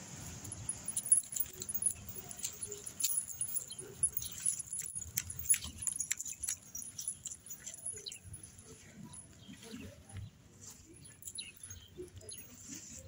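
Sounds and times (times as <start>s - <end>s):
chain leash jangling: 0.3s - 10.0s, 10.6s - 13.0s.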